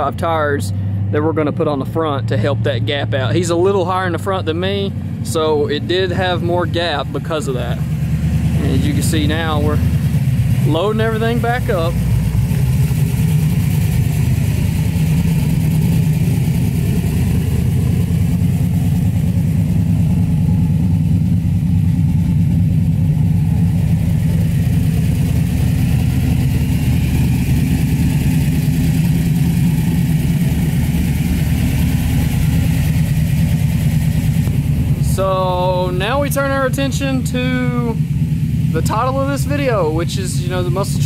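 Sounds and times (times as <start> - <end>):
car engine idling loudly: 0.0 - 41.0.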